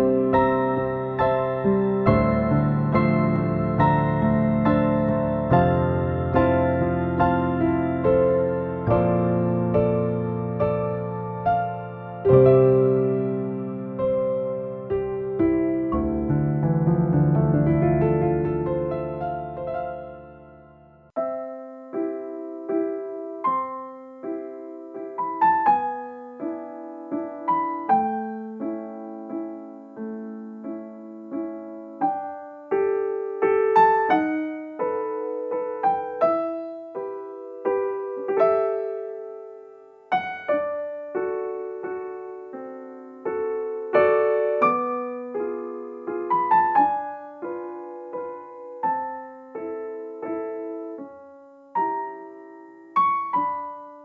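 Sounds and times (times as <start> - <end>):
gentle piano music: 0.0 - 54.0.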